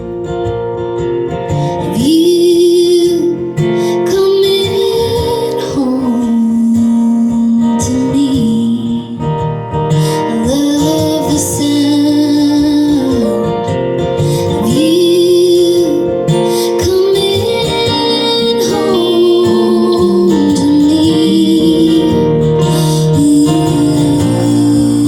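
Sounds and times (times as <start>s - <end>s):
acoustic guitar: 0.0s - 25.0s.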